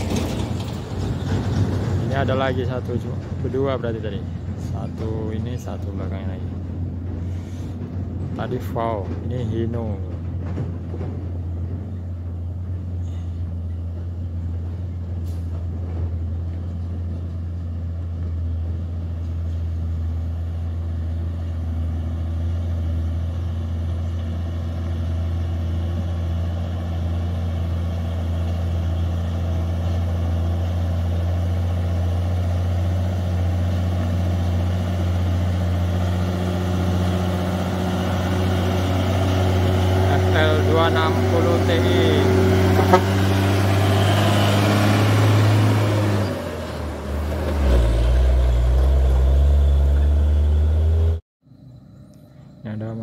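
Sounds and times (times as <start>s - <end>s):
truck diesel engine droning: 0.0s - 51.2s.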